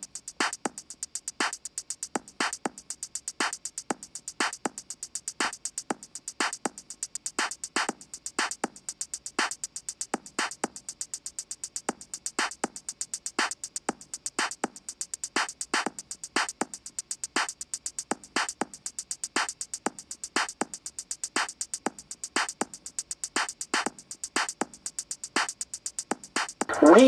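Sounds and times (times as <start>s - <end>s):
music with steady drum beat: 0.0s - 27.0s.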